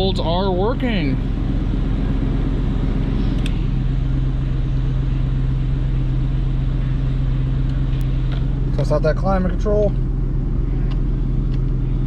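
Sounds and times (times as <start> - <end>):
car engine idling: 0.0 - 12.0
steady low hum: 0.0 - 12.0.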